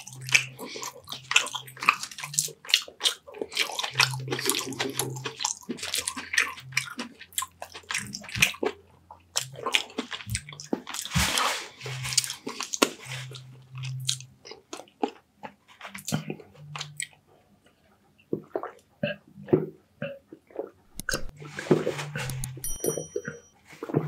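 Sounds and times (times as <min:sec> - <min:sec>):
wet chewing and lip smacking: 0:00.0 - 0:21.3.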